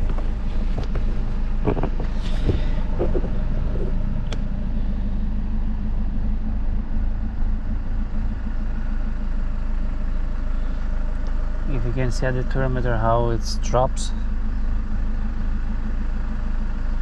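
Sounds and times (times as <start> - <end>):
diesel engine idling roughly: 0.0 - 17.0.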